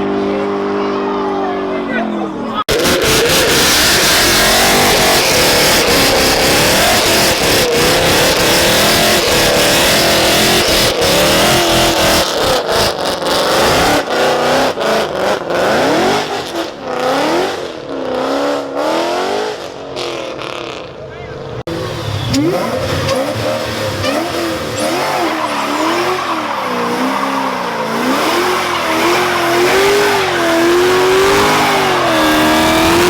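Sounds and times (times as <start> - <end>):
car engine revving: 0.0 - 21.0, 21.6 - 33.0.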